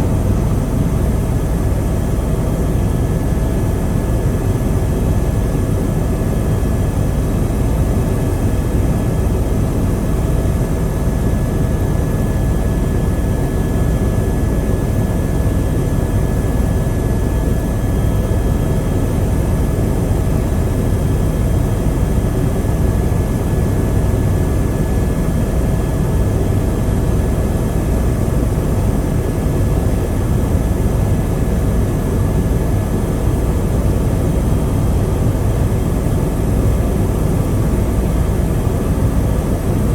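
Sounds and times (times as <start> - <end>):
faint steady whine: 0.0 - 39.9
helicopter rotor and engine: 0.0 - 39.9.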